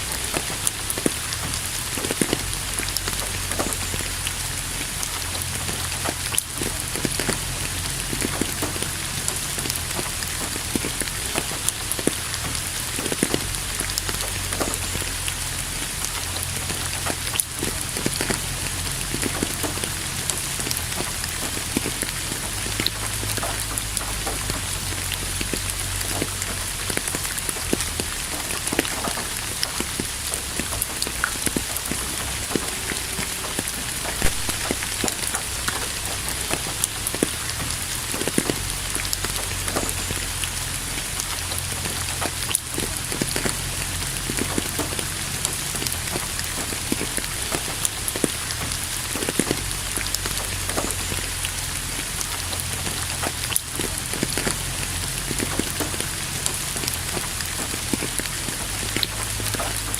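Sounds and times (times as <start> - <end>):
low steady rumble: 0.0 - 59.9
steady rain falling: 0.0 - 59.9.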